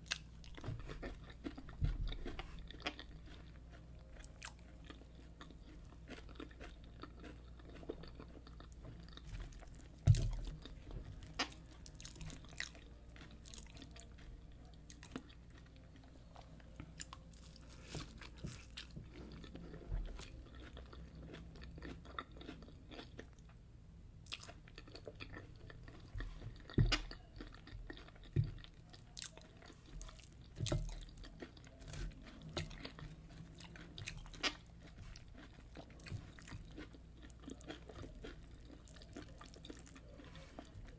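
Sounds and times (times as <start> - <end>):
wet chewing with crisp crunches: 0.0 - 23.6, 24.2 - 40.9.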